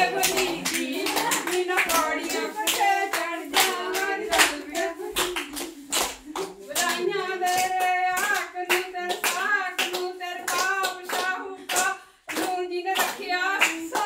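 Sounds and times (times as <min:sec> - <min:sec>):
women clapping in a steady beat: 0:00.0 - 0:14.0
women singing together: 0:00.0 - 0:14.0.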